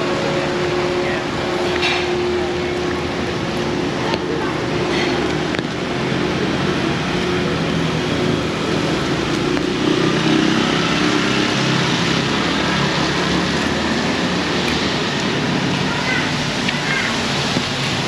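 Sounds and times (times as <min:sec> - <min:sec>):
heavy rain pouring: 0:00.0 - 0:18.0
vehicle engine humming: 0:00.0 - 0:18.0.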